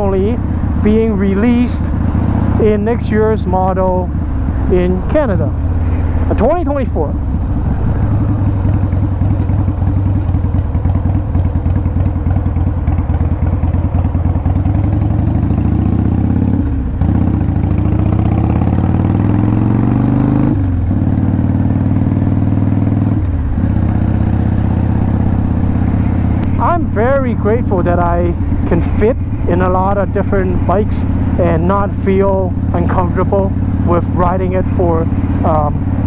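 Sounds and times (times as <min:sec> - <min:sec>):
motorcycle engine and exhaust: 0:00.0 - 0:36.0.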